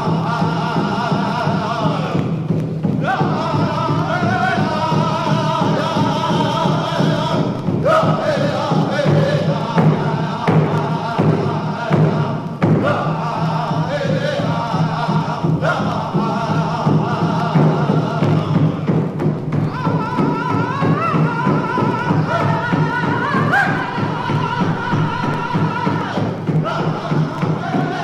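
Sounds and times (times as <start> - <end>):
chanted vocal phrases: 0.0 - 28.0
drumbeats: 0.0 - 28.0.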